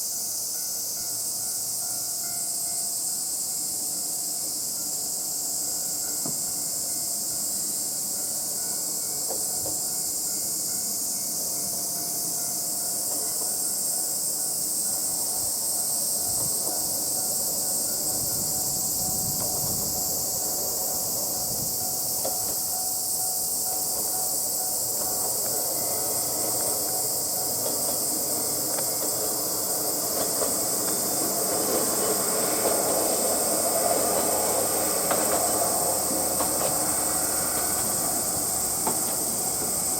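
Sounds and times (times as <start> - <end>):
diesel railcar rumble: 0.0 - 39.9
steady high hiss: 0.0 - 39.9.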